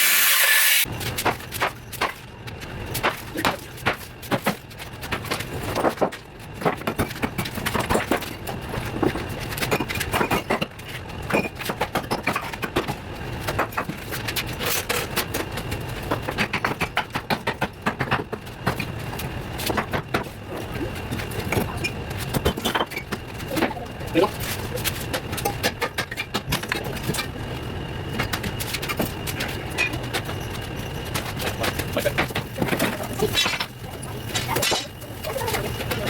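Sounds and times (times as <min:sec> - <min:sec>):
steady low hum: 0:00.8 - 0:36.0.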